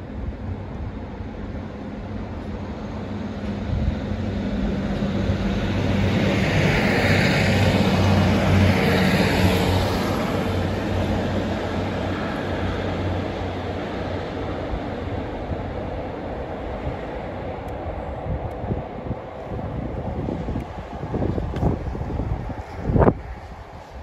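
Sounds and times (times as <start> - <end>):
train engine drone: 0.0 - 24.0
train wheels rushing on rails: 0.0 - 24.0.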